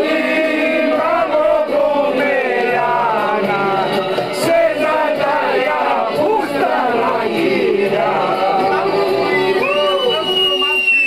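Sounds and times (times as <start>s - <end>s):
men singing together: 0.0s - 9.7s.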